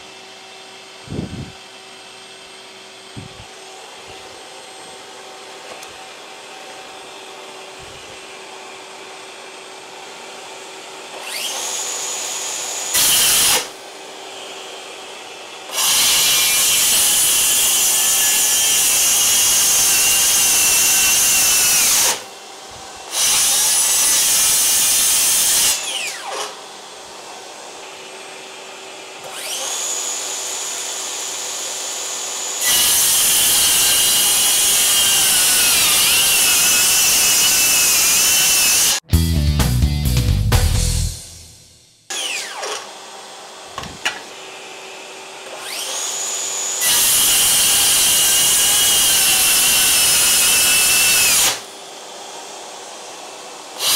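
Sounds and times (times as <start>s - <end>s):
dust extractor humming: 0.0s - 32.8s, 34.4s - 53.9s
circular saw cutting board: 3.1s - 51.7s.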